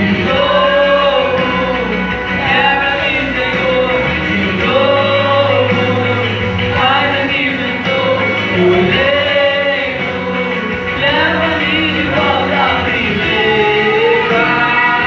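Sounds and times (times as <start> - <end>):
steady bass line: 0.0 - 15.0
vocal group singing gospel: 0.0 - 15.0.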